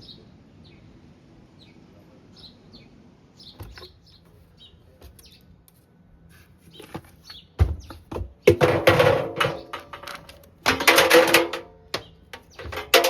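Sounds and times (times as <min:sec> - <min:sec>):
birds chirping faintly: 0:00.0 - 0:10.9, 0:11.5 - 0:13.0.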